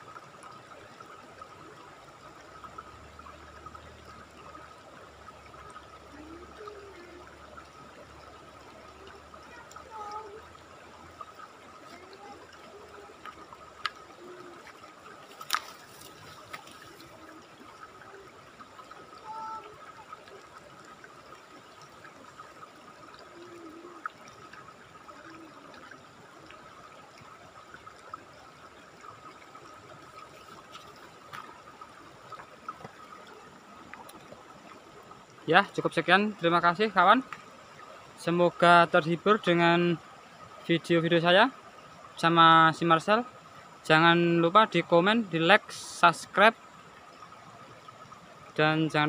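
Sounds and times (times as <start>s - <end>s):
river water rushing over rocks: 0.0s - 49.0s.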